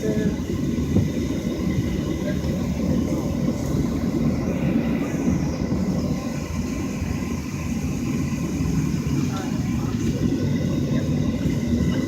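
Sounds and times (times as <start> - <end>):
airliner cabin rumble: 0.0 - 12.0
faint steady whine: 0.0 - 12.0.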